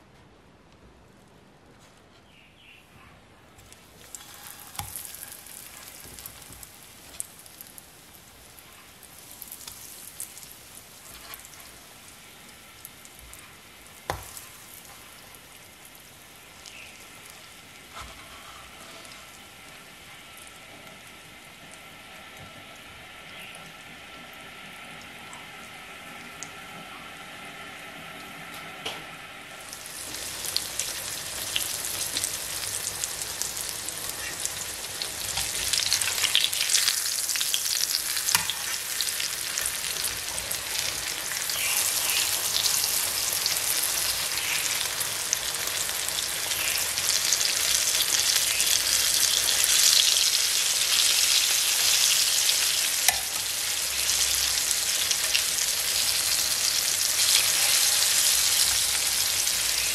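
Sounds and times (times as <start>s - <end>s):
food sizzling in oil: 3.8s - 27.9s, 29.5s - 59.9s.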